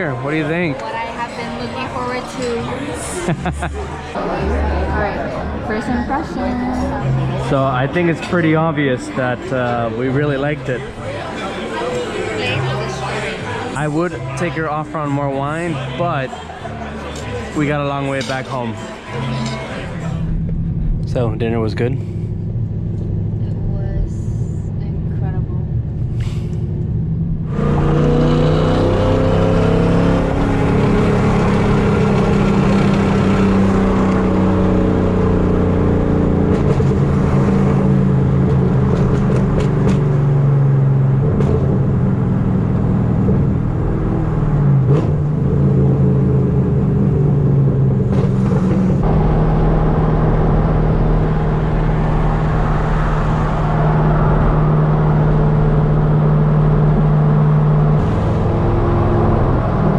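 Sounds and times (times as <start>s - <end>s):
car engine with loud exhaust: 0.0s - 59.9s.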